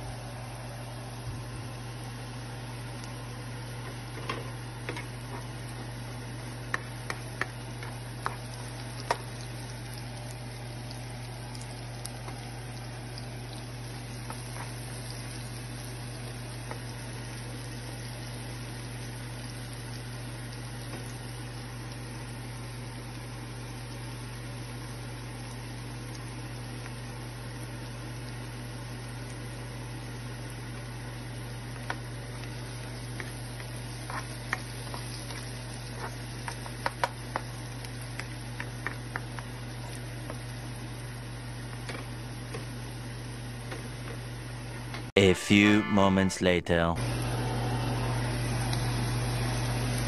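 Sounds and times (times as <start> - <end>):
vegetables sizzling in oil: 2.7 - 44.2.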